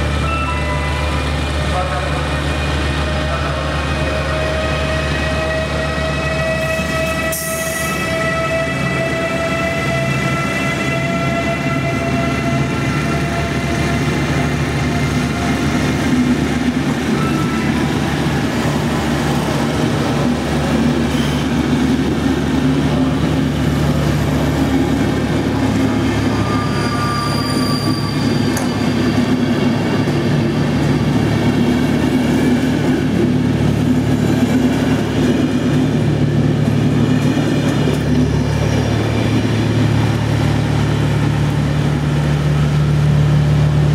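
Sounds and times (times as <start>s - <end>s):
electric locomotive whining: 0.0s - 43.9s
train wheels rumbling on rails: 0.0s - 43.9s.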